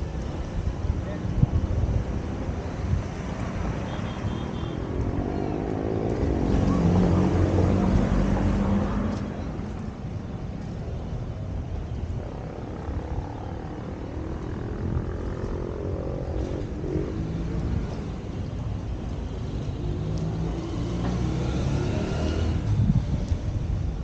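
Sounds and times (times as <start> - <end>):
rumble of passing vehicles: 0.0 - 24.0.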